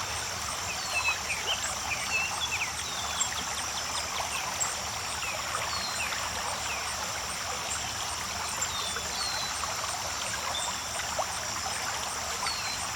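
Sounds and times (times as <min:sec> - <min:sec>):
creek water running over rocks: 0:00.0 - 0:12.9.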